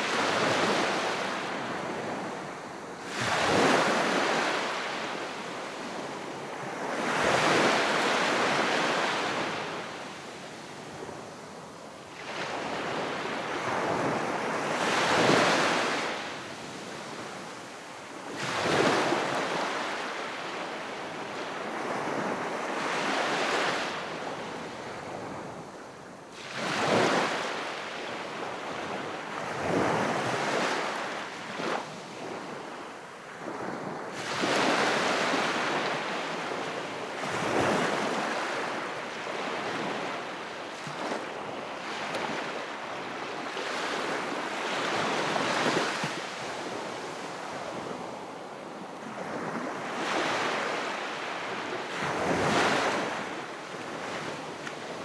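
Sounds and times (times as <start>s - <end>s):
calm sea waves washing ashore: 0.0s - 55.0s.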